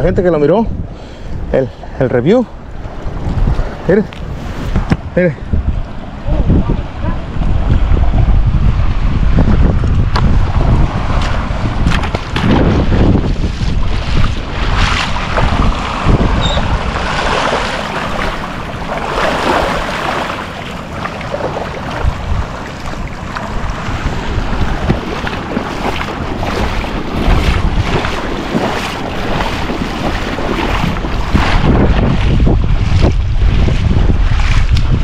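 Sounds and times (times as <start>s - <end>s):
wind buffeting microphone: 0.0s - 35.0s
ocean surf: 1.6s - 9.4s, 10.3s - 33.4s.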